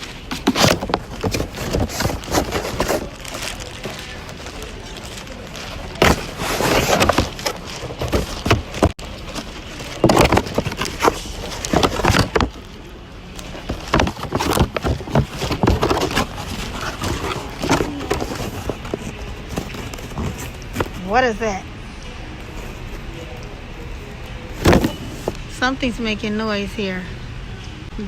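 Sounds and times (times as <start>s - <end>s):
rustling: 0.0s - 21.5s, 22.4s - 25.4s.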